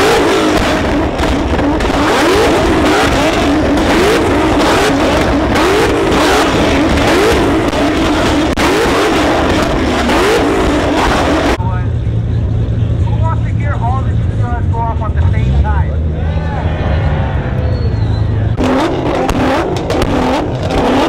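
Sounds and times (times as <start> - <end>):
car engine revving hard: 0.0 - 11.6, 15.1 - 21.0.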